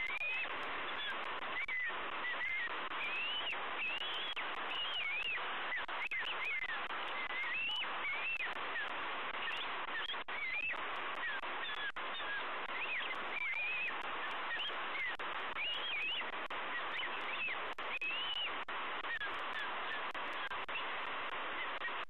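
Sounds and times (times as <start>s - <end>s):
eagles chirping: 0.0s - 21.0s.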